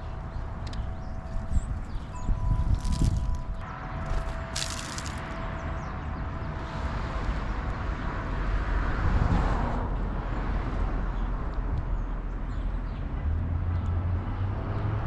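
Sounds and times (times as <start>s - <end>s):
low steady engine hum: 0.0s - 15.0s.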